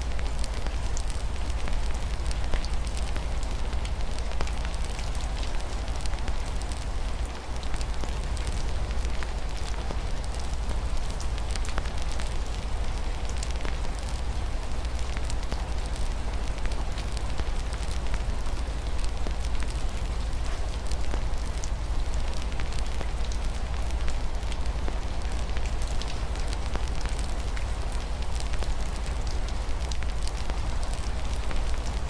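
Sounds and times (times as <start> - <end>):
fire crackling: 0.0 - 32.0
rain falling softly: 0.0 - 32.0.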